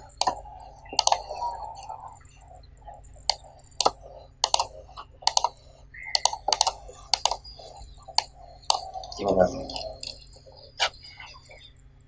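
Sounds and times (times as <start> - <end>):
mouse and keyboard clicks: 0.0 - 11.7.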